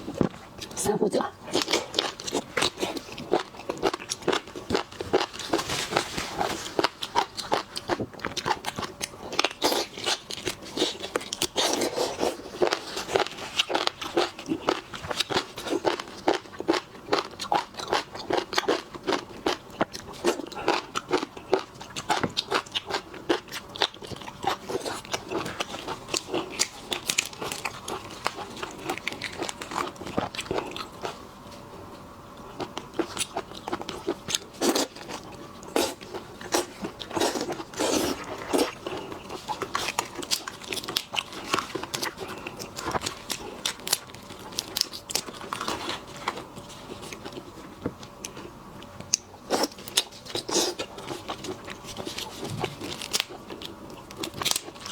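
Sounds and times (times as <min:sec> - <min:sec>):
chewing and biting seafood: 0:01.5 - 0:05.6, 0:06.3 - 0:31.2, 0:32.6 - 0:54.9.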